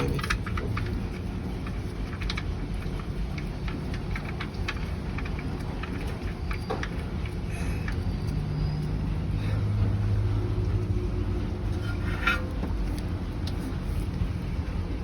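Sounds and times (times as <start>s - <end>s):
low shop rumble: 0.0s - 15.0s.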